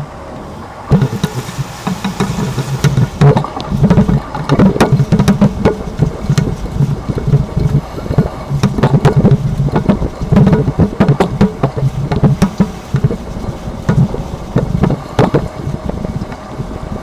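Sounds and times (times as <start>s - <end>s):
road and driveline rumble: 0.0s - 17.0s
sharp knocks and clunks: 0.9s - 13.2s, 13.8s - 15.5s.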